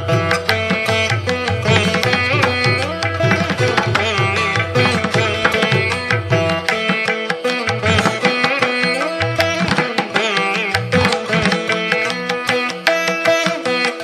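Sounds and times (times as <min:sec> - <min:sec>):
plucked-string melody: 0:00.0 - 0:14.0
hand-drum strokes: 0:00.6 - 0:14.0.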